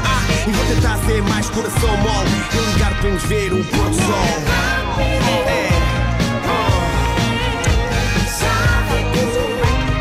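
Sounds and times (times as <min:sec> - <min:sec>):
pop music with strong bass: 0:00.0 - 0:10.0.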